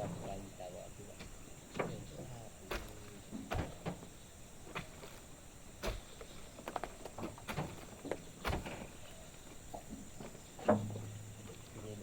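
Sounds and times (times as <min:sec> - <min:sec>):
sharp knocks and thuds: 0:00.0 - 0:11.8
faint steady background noise: 0:00.0 - 0:12.0.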